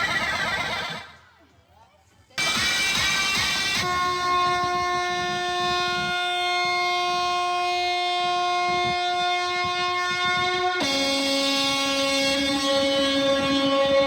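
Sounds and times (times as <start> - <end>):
held horn-like note: 2.4 - 14.0.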